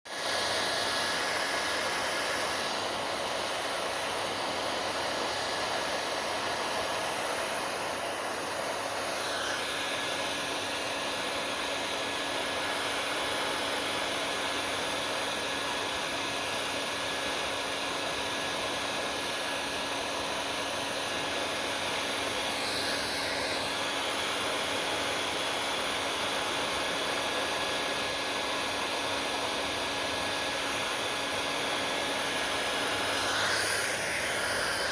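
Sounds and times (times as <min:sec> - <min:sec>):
hair dryer running: 0:00.1 - 0:34.9.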